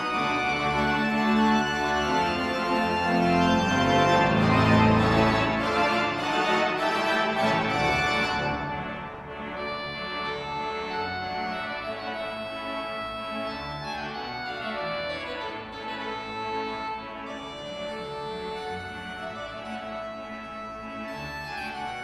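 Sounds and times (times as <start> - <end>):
pipe organ playing chords: 0.0 - 22.0.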